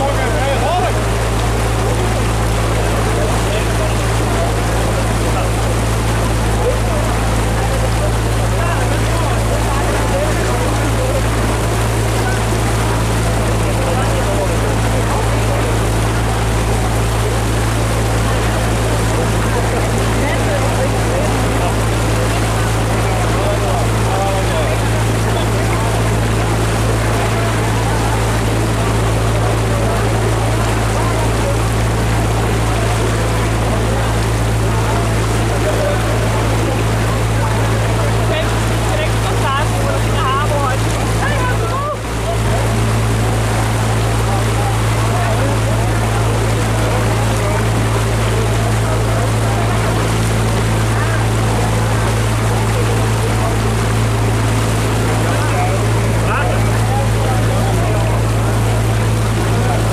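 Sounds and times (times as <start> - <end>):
boat diesel engine droning: 0.0 - 59.9
water rushing: 0.0 - 59.9.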